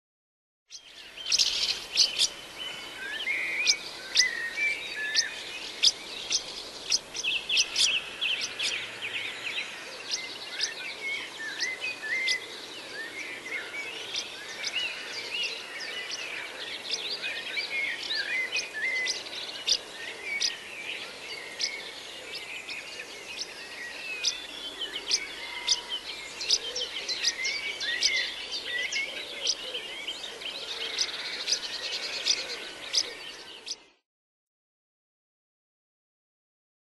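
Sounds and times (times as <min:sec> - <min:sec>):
songbirds twittering: 0:00.7 - 0:34.0.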